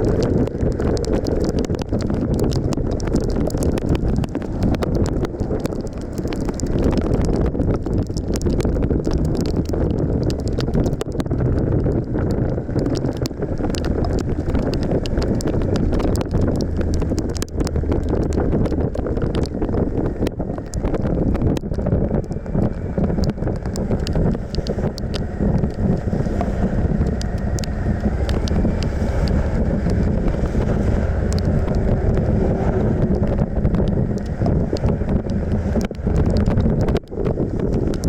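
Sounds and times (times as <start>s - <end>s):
sharp ticks: 0.0s - 38.0s
wind buffeting microphone: 0.0s - 38.0s.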